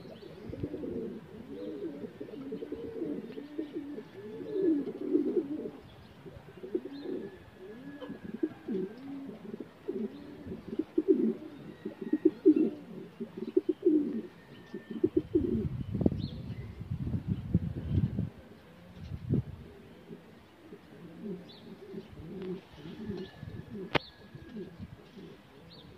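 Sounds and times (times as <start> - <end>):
pigeons cooing: 0.0 - 16.8, 17.5 - 25.9.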